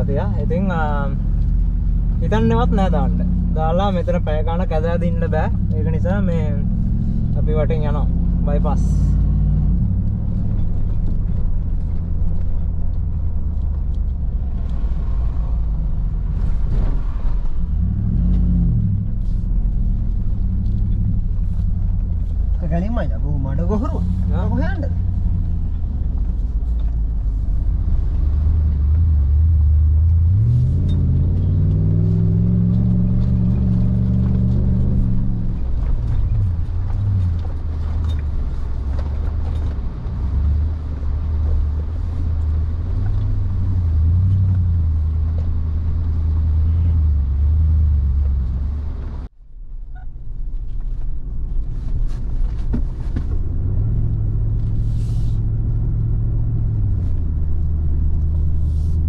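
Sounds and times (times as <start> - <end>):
car engine driving off-road: 0.0 - 59.0.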